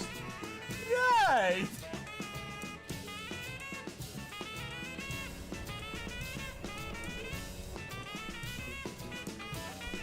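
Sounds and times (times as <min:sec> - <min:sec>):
drum kit steady beat: 0:00.0 - 0:10.0
jazzy background music: 0:00.0 - 0:10.0.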